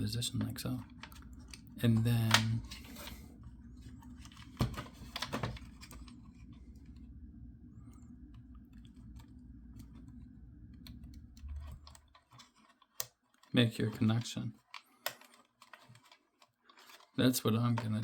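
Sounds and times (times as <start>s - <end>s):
steady low hum: 0.0s - 15.1s
small plastic clicks and handling: 0.3s - 3.2s, 3.8s - 7.1s, 7.8s - 18.0s.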